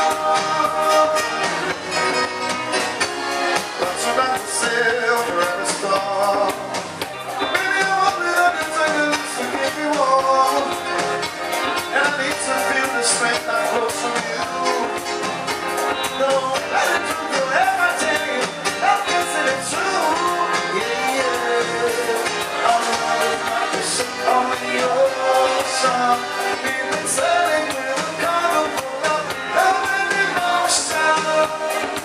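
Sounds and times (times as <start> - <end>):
upbeat dance music with singing: 3.6 - 32.0.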